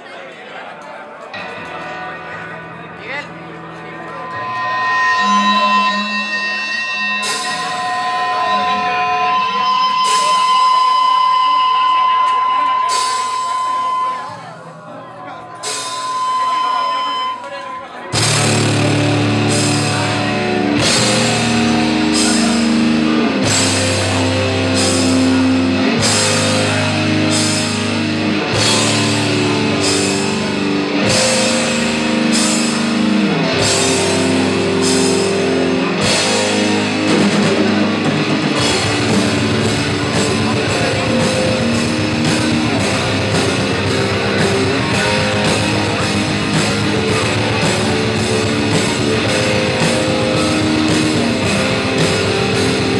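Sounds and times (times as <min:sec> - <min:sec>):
heavy distorted guitar chords: 0:01.4 - 0:14.9, 0:15.6 - 0:52.9
death metal band playing live: 0:01.4 - 0:52.9
drum and cymbal hits: 0:04.4 - 0:14.7, 0:15.6 - 0:17.4, 0:18.1 - 0:52.9.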